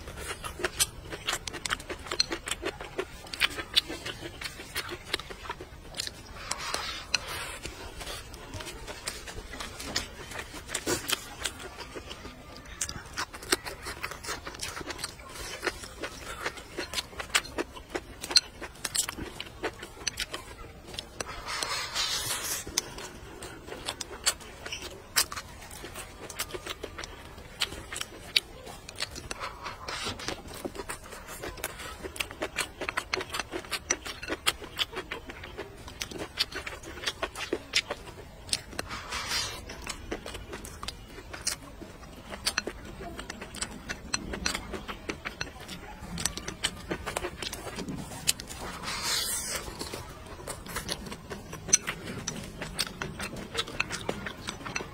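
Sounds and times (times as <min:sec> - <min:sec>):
chewing and mouth sounds: 0:00.0 - 0:54.9.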